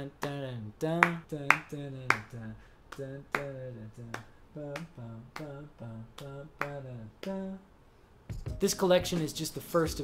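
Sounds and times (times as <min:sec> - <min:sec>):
man singing wordless syllables: 0:00.0 - 0:07.8, 0:08.5 - 0:10.0.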